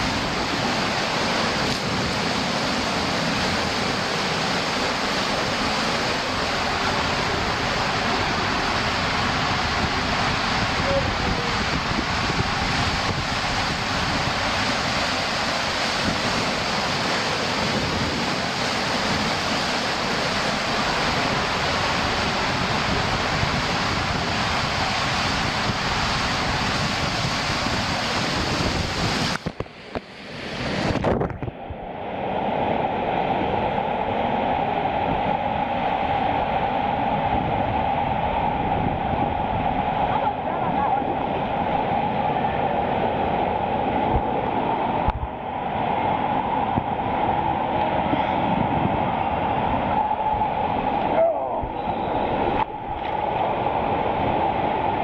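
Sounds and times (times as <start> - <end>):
water rushing down slide tube: 0.0 - 55.0.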